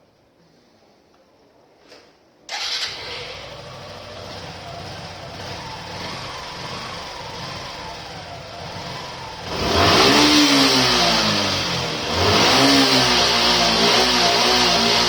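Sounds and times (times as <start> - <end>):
motorcycle engine idling and revving: 2.5 - 15.0.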